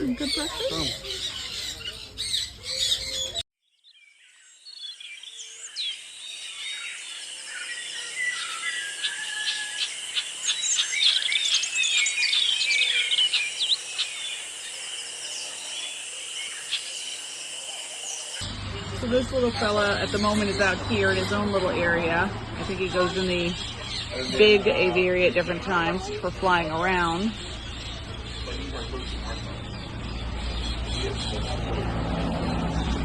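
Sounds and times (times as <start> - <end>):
parakeets chirping and squawking: 0.0 - 3.4, 6.6 - 33.0.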